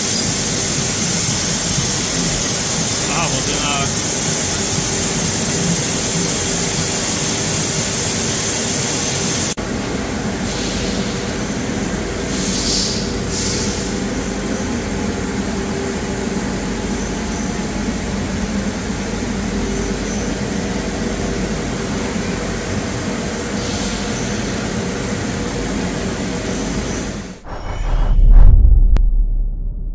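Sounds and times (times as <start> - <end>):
machine hum and whir: 0.0 - 29.9.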